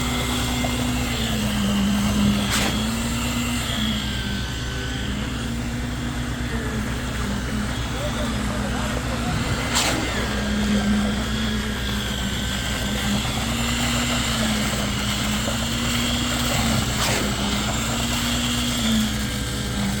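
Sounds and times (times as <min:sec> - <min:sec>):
machinery droning hum: 0:00.0 - 0:20.0.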